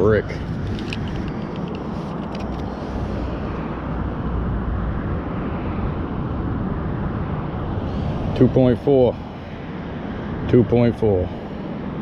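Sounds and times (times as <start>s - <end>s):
highway traffic roar: 0.0s - 12.0s.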